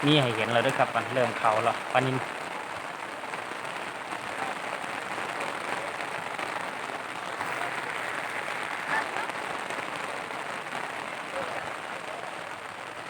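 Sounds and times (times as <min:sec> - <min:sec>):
faint voices: 0:00.0 - 0:13.0
rain patter: 0:00.0 - 0:13.0.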